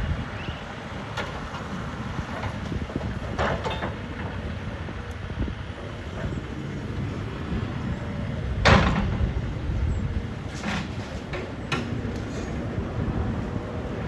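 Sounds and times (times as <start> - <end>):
demolition machinery rumbling: 0.0 - 14.0.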